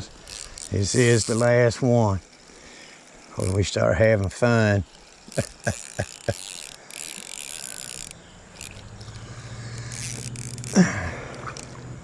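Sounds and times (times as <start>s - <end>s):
fishing reel clicks: 0.0s - 12.0s
fishing reel whirring: 0.0s - 12.0s.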